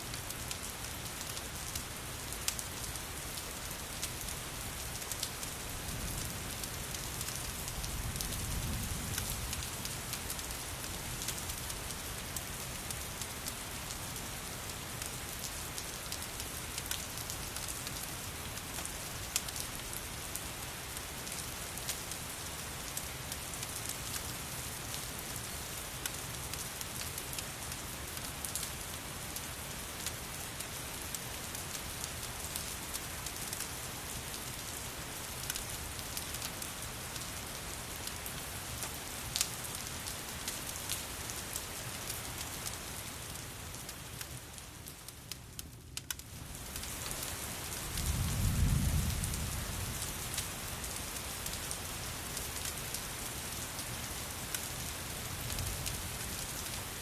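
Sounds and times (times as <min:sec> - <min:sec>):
wood fire crackling: 0:00.1 - 0:08.0, 0:14.9 - 0:57.0.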